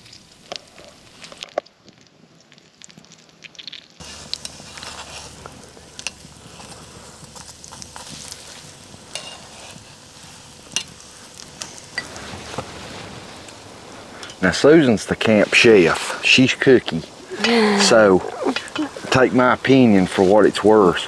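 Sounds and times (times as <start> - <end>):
bread sizzling in grease: 0.0 - 1.5, 2.8 - 21.0.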